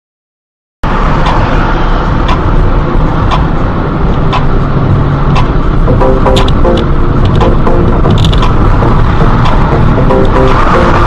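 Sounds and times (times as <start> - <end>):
car engine and road noise: 0.8 - 11.0.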